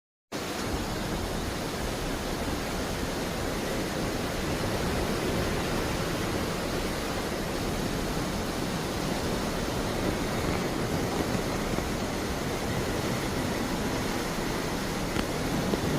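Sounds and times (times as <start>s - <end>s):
sea water churning: 0.4s - 15.9s.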